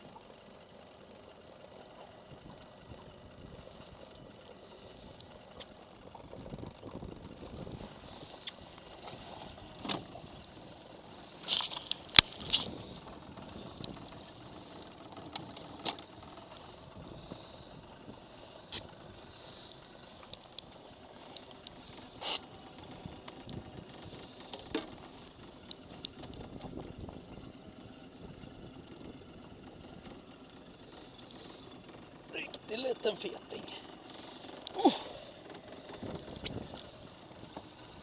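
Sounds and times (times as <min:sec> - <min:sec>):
knocks and clicks of gear: 0:01.4 - 0:32.6, 0:33.8 - 0:38.0.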